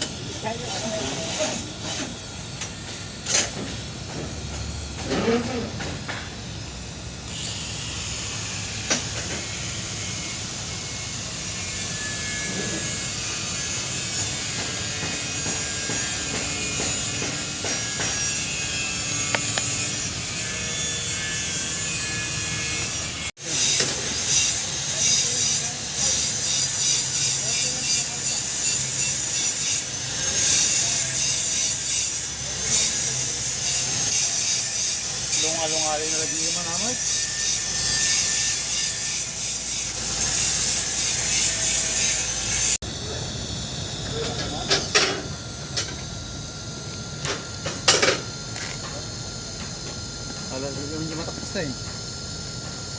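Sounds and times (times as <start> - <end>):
welding arc hissing: 0.0 - 52.9.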